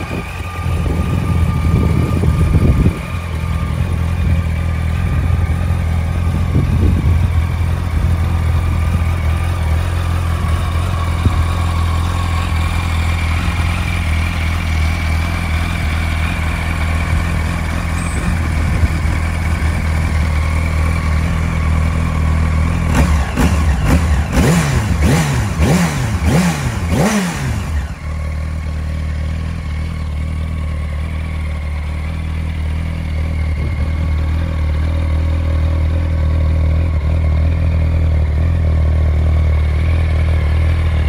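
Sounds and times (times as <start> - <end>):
motorcycle engine idling and revving: 0.0 - 41.0.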